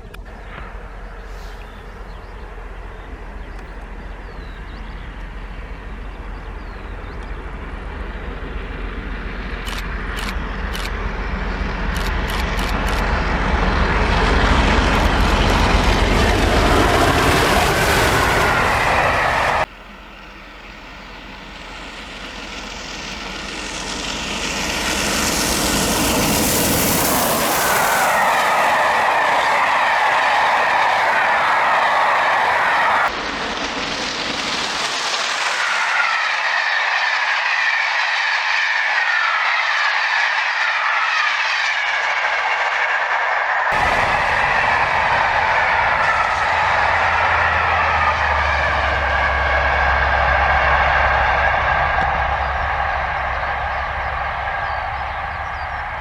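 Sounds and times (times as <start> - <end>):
steam locomotive passing: 0.0 - 56.0.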